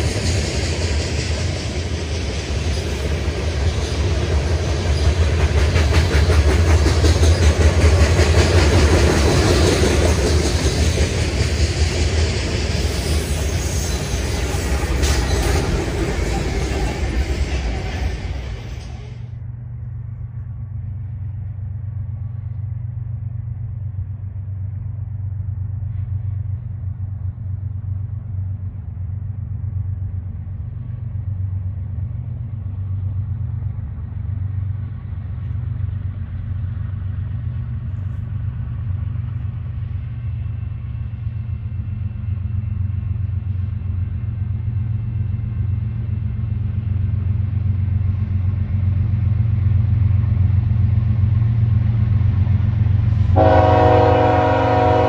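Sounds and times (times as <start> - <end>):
diesel locomotive engines rumbling: 0.0 - 55.0.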